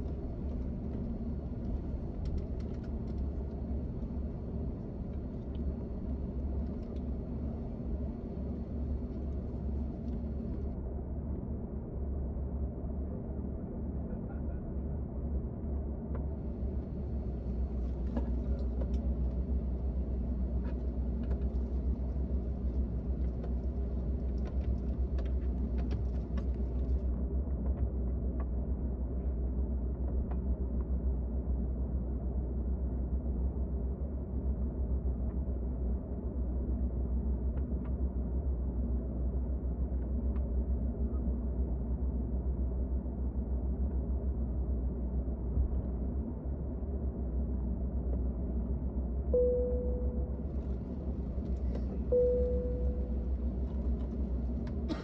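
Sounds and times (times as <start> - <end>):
low rumble in aircraft cabin: 0.0 - 55.0.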